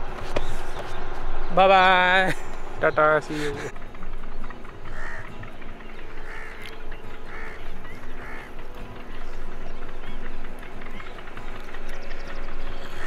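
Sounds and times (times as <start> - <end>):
bird calling: 0.0 - 13.0
steady background noise: 0.0 - 13.0.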